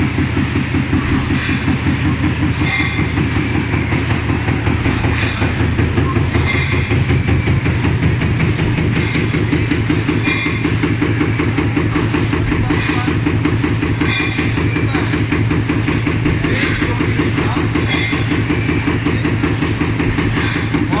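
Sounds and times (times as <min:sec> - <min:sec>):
punching machine clattering: 0:00.0 - 0:21.0.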